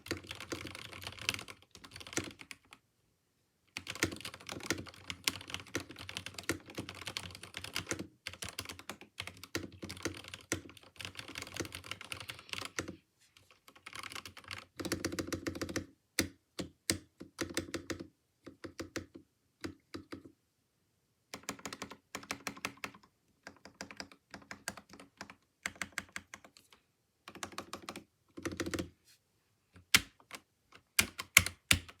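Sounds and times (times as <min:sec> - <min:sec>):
mechanical keyboard typing: 0:00.0 - 0:02.8, 0:03.7 - 0:20.3, 0:21.3 - 0:26.7, 0:27.3 - 0:28.9, 0:29.8 - 0:32.0.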